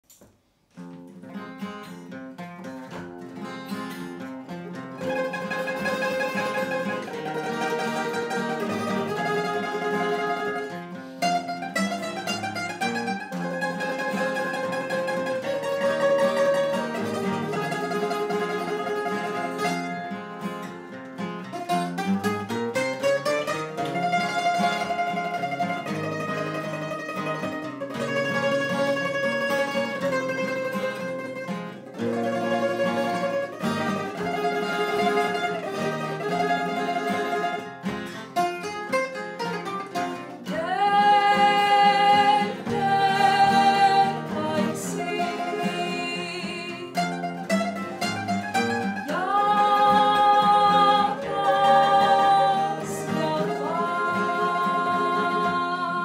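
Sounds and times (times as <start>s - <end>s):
acoustic guitars: 0.0s - 56.0s
bouzouki melody: 0.8s - 56.0s.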